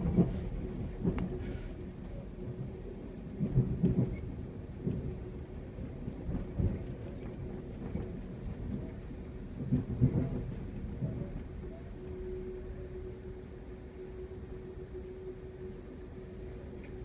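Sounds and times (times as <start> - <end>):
train car rumble: 0.0 - 17.0.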